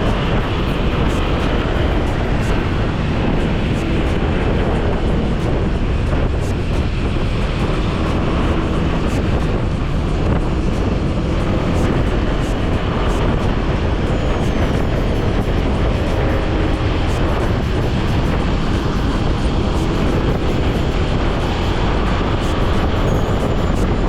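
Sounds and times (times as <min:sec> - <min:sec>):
road noise: 0:00.0 - 0:24.0
wind rumble on microphone: 0:00.0 - 0:24.0.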